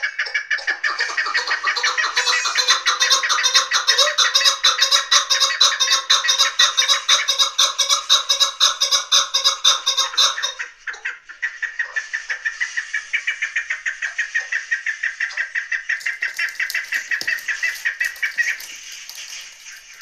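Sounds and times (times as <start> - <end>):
partridge clucking calls: 0.0 - 20.0.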